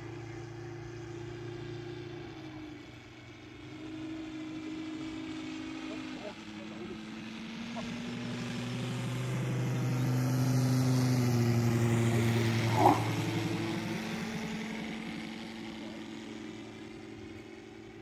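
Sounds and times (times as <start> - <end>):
model plane engine droning: 0.0 - 18.0.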